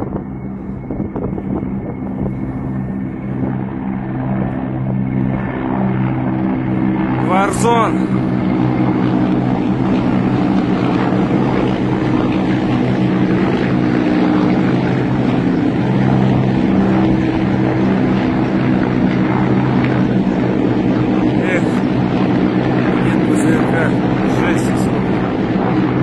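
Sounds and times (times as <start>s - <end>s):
helicopters flying overhead: 0.0s - 26.0s.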